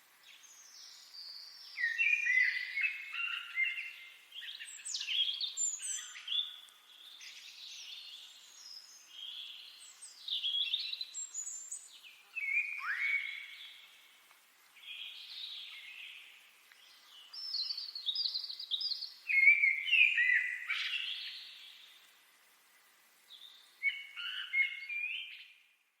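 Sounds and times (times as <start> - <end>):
songbirds chirping and warbling: 0.0 - 25.8.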